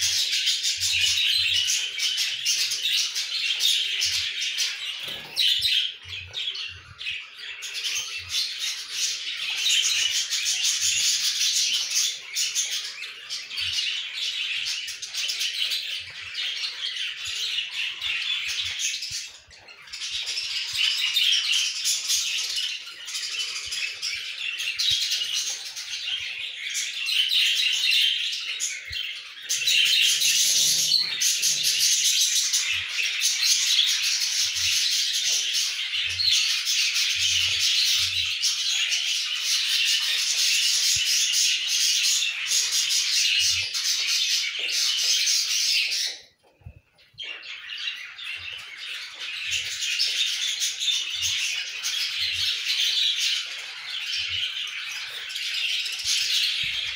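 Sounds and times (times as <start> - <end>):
budgies chirping and chattering: 0.0 - 56.9.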